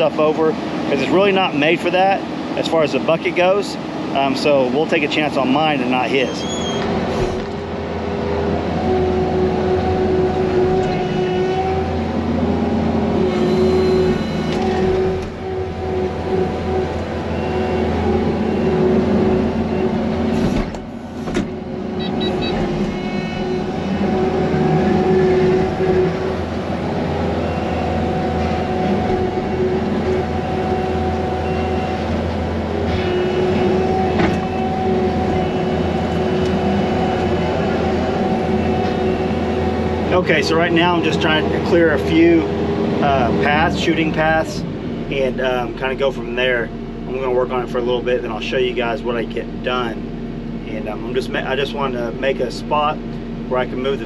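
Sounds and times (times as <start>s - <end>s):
diesel engine running: 0.0s - 54.0s
high whining tone: 8.6s - 54.0s.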